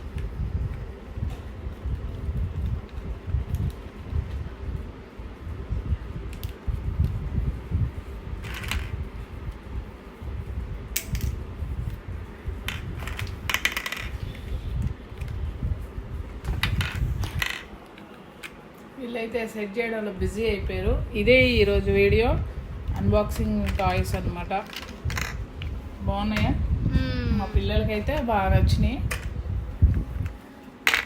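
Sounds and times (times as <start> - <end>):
wind buffeting microphone: 0.0 - 13.5, 14.1 - 17.4, 20.2 - 30.4
steady low rumble: 0.0 - 17.5, 20.0 - 30.5.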